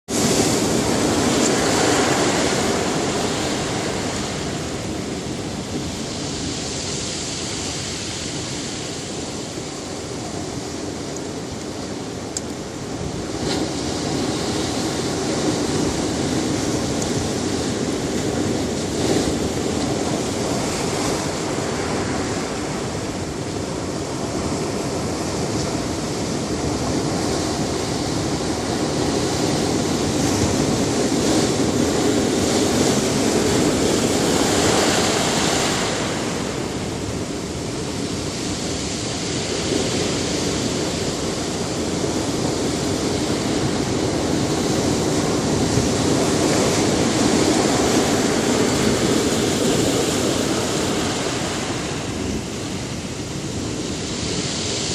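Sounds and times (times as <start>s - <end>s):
waves breaking on a beach: 0.1s - 54.9s.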